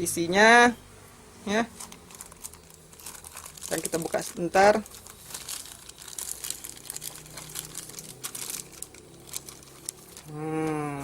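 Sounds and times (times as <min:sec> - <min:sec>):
packaging crinkling and rustling: 0:01.7 - 0:10.8.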